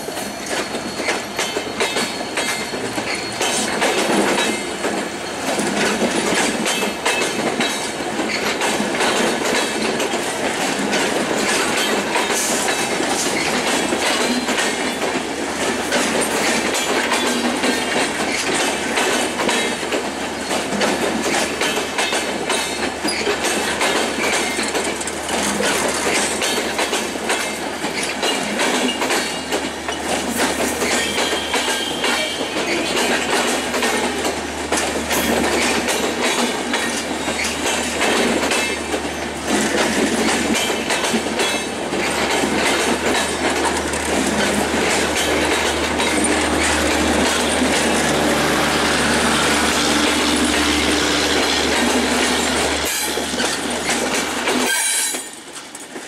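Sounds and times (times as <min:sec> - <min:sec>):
train wheels clattering over rail joints: 0:00.0 - 0:56.0.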